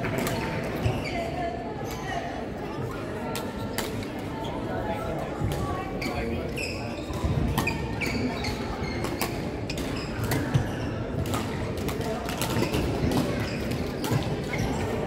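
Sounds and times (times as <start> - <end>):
hubbub of voices: 0.0 - 15.0.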